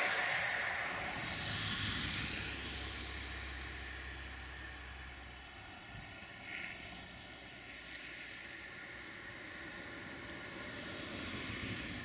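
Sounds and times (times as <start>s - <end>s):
distant engine rumble: 0.0s - 12.0s
low hum: 0.0s - 12.0s.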